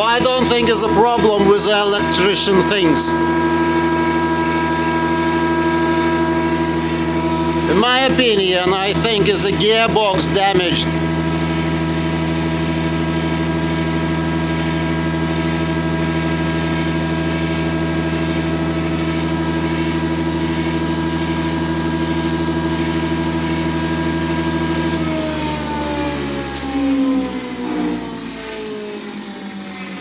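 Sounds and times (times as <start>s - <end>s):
electric motor humming: 0.0s - 30.0s.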